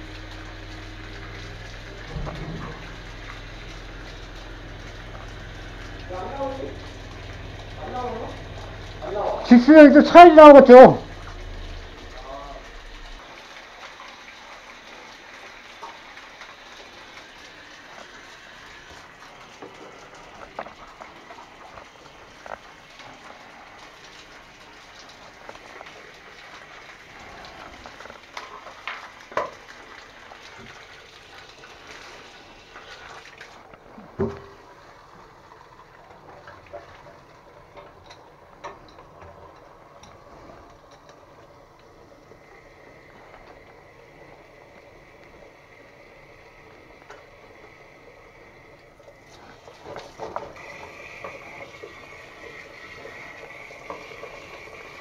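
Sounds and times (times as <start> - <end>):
water gushing in drain pipe: 0.0 - 55.0.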